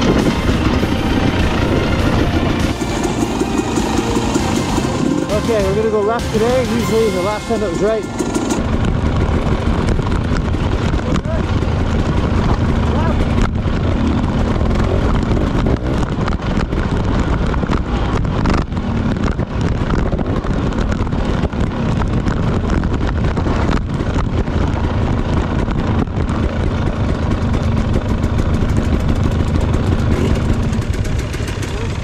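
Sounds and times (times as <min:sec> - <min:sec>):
dirt bike engine running: 0:00.0 - 0:32.0.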